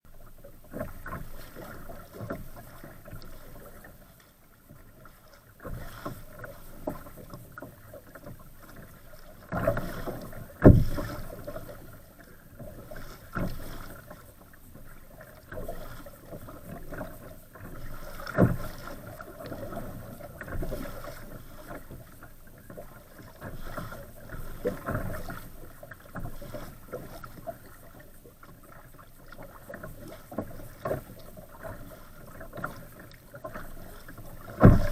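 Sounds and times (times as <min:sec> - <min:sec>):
water splashing around kayak: 0:00.0 - 0:34.9.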